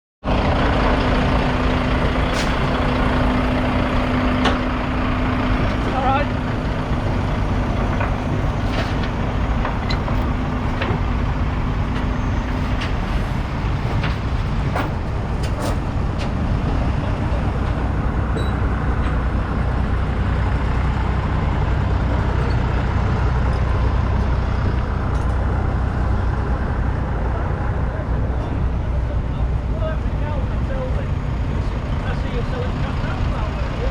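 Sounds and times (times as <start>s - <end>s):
diesel engine droning: 0.2s - 33.9s.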